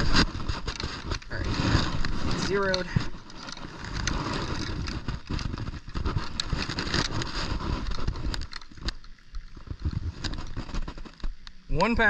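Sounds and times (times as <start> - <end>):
handling clicks and rustles: 0.0 - 11.6
wind rumbling on microphone: 0.0 - 11.8.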